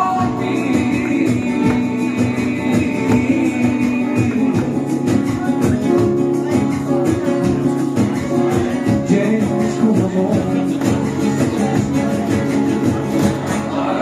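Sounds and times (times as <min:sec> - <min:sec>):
acoustic guitars strumming: 0:00.0 - 0:14.0
guitar melody: 0:00.0 - 0:14.0.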